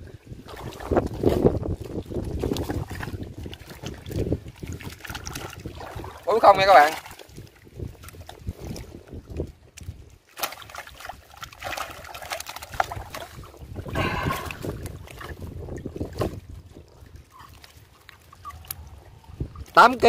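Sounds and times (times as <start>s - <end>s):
water sloshing and dripping: 0.0s - 20.0s.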